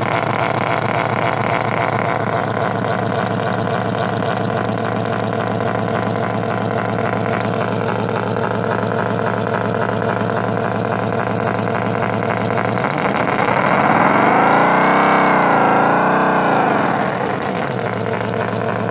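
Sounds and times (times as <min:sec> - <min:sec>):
synthetic engine note revving: 0:00.0 - 0:18.9.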